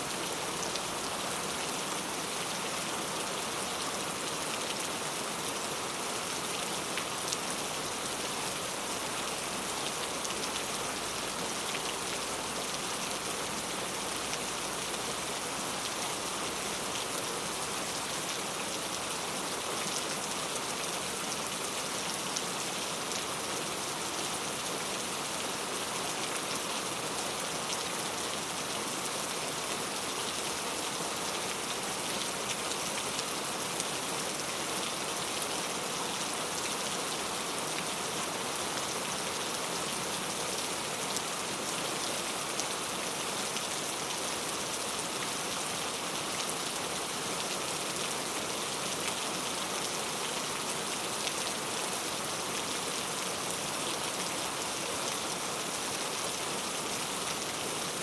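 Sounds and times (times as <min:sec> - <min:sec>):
heavy rain on hard street: 0:00.0 - 0:58.0.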